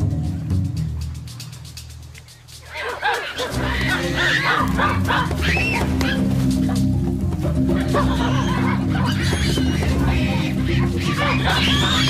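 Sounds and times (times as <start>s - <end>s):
soundtrack music with bass: 0.0s - 12.0s.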